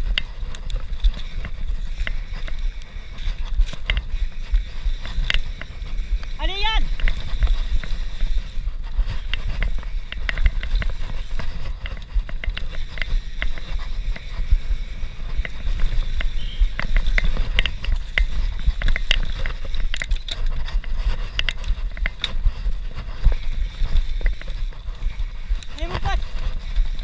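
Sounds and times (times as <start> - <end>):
bike rattling over bumps: 0.0 - 27.0
wind and ground rumble: 0.0 - 27.0.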